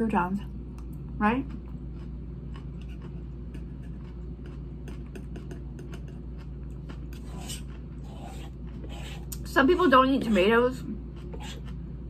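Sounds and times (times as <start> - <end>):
steady low hum: 0.0 - 12.0
person chewing crunchy salad: 0.8 - 10.4, 11.0 - 12.0.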